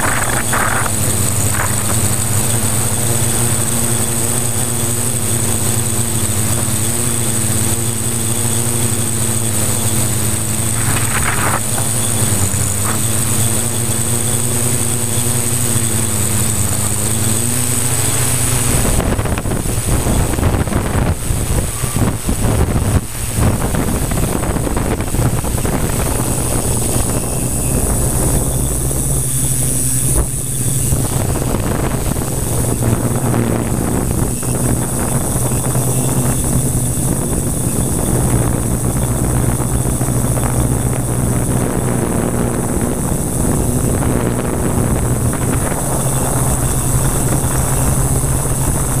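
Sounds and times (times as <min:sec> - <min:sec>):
drone motors humming: 0:00.0 - 0:49.0
wind buffeting microphone: 0:00.0 - 0:49.0.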